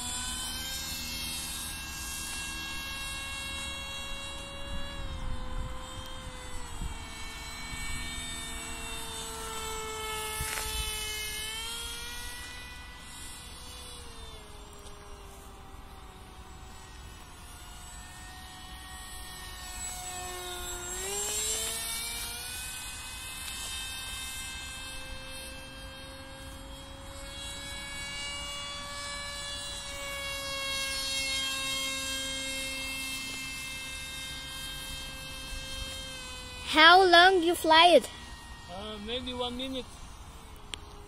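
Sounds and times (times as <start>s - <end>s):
model jet electric motor whine: 0.0s - 41.0s.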